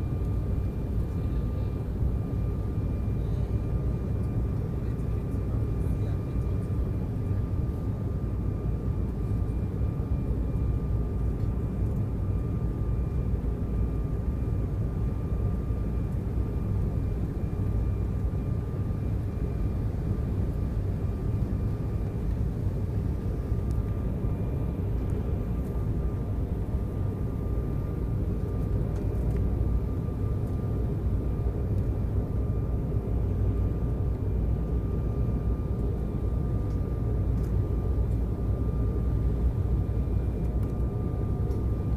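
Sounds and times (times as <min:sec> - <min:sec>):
jet cabin engine rumble: 0:00.0 - 0:41.9.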